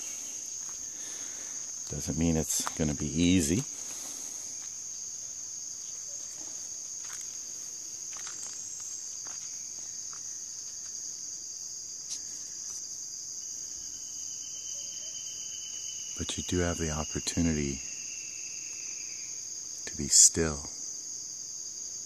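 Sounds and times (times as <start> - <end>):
high-pitched insect buzz: 0.0 - 19.8.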